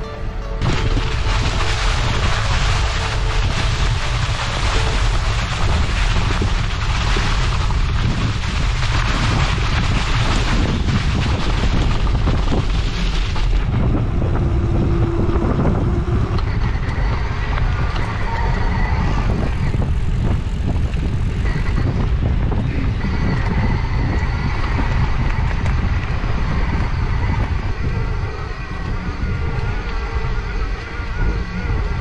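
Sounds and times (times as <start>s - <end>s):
bike tyre rumble: 0.0s - 32.0s
faint steady whine: 0.0s - 32.0s
wind buffeting microphone: 0.0s - 32.0s
leaves crackling under tyres: 0.6s - 32.0s.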